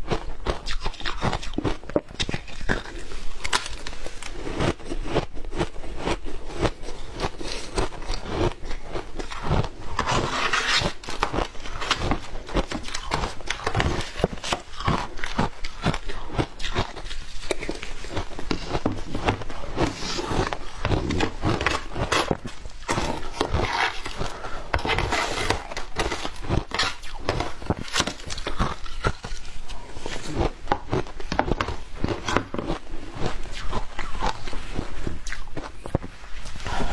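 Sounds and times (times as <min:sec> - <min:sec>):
shaved ice being chewed: 0:00.0 - 0:36.9.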